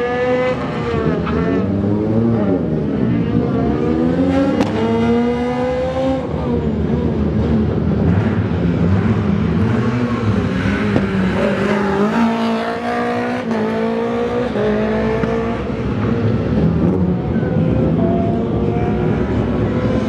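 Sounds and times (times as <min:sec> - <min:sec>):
rally car engine accelerating: 0:00.0 - 0:20.0.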